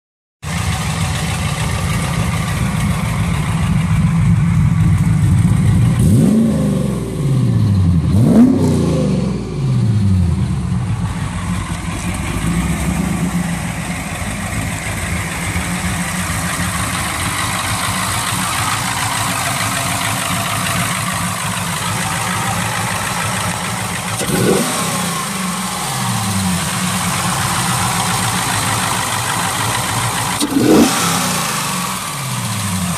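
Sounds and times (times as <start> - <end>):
car engine idling: 0.4 - 8.4, 9.3 - 32.9
engine revving: 4.6 - 32.9.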